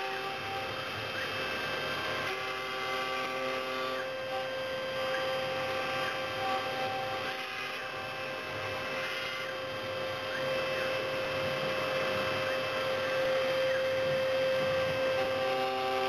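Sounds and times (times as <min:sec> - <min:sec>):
milling machine spindle whine: 0:00.0 - 0:16.0
noisy hiss: 0:00.0 - 0:16.0.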